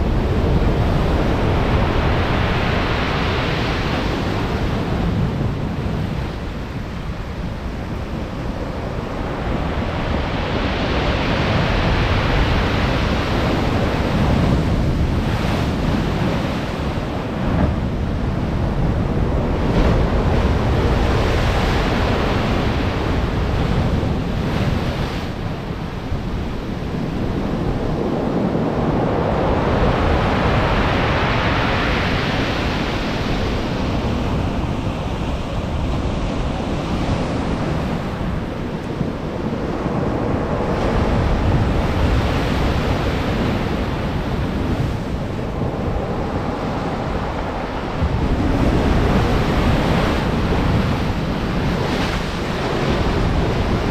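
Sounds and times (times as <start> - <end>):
heavy waves breaking: 0.0 - 53.9
wind rumbling on microphone: 0.0 - 53.9.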